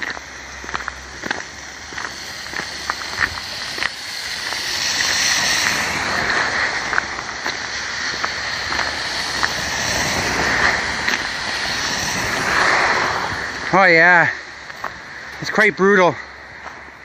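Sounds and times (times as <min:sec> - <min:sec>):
footsteps crunching in snow: 0:00.0 - 0:13.8, 0:14.4 - 0:17.0
steady rushing hiss: 0:00.0 - 0:17.0.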